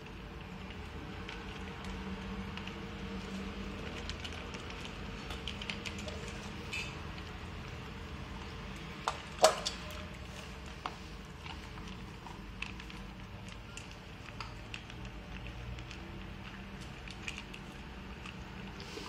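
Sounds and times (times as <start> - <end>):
dogs chewing dry kibble: 0.0 - 19.0
kibble against metal bowl: 0.0 - 19.0.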